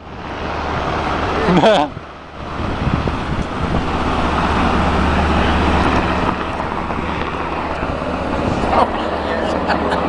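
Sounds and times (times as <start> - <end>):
helicopter rotor and engine drone: 0.0 - 10.0.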